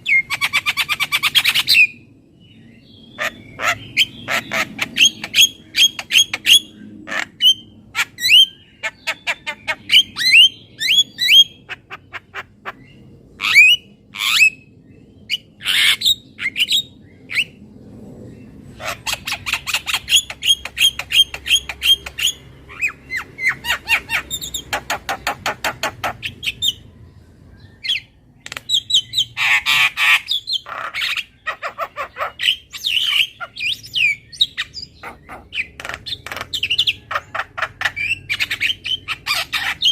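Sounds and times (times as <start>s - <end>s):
myna chirping and squawking: 0.0s - 2.1s, 2.8s - 17.6s, 18.4s - 27.0s, 27.6s - 39.9s.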